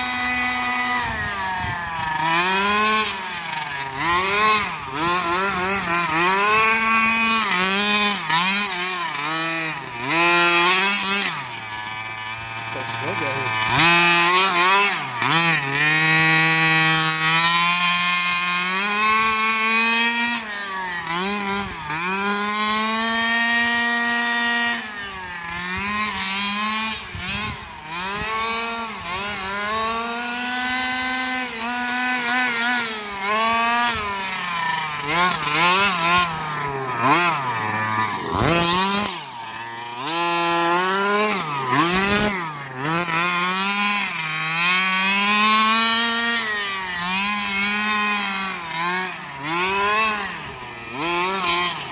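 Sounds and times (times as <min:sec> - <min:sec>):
rc car engine revving: 0:00.0 - 0:51.9.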